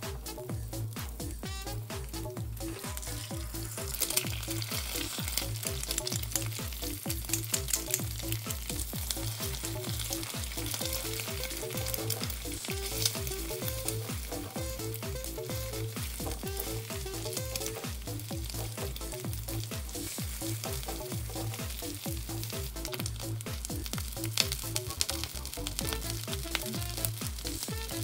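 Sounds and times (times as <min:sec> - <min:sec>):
background music with steady beat: 0:00.0 - 0:28.0
sausage sizzling in a pan: 0:00.0 - 0:28.0
spatula stirring in pan: 0:02.6 - 0:25.1.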